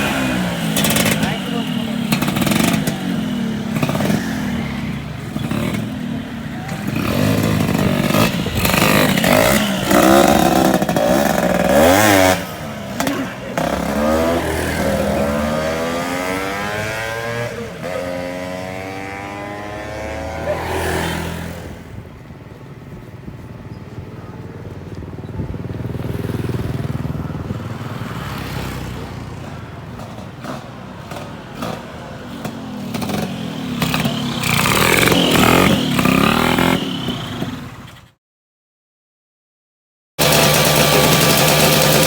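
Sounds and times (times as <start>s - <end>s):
scooter engine revving: 0.0s - 38.1s, 40.2s - 42.0s.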